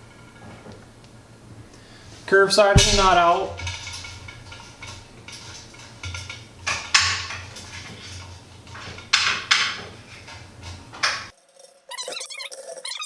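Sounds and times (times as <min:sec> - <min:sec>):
low steady hum: 0:00.0 - 0:11.3
metal hardware clinking and scraping: 0:00.0 - 0:12.9.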